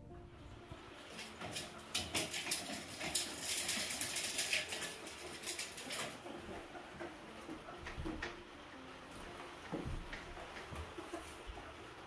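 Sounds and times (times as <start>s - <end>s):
animals scrabbling on plastic pipes: 0.7s - 12.0s.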